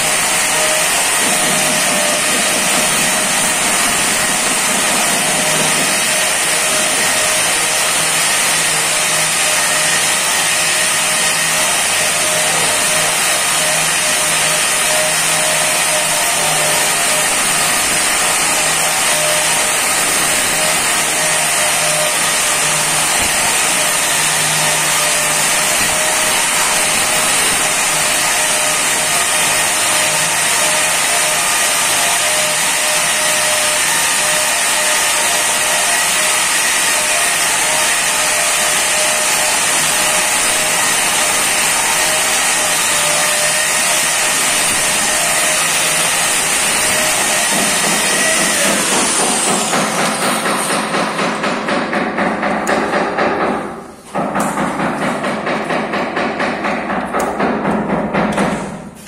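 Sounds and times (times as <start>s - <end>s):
angle grinder cutting stone: 0.0s - 51.4s.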